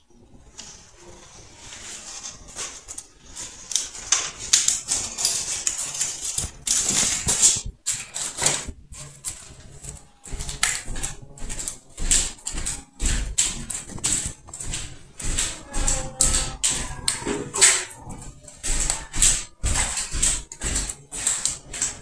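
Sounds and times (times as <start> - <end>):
wood fire crackling and popping: 0.2 - 22.0.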